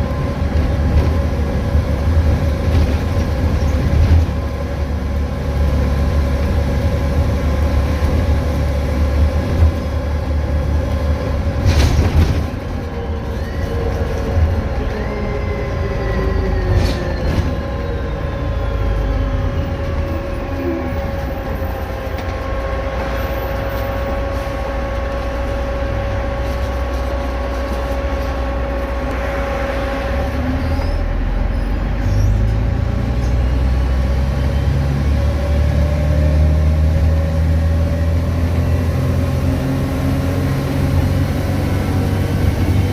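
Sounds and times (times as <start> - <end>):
bus diesel engine rumble: 0.0 - 42.9.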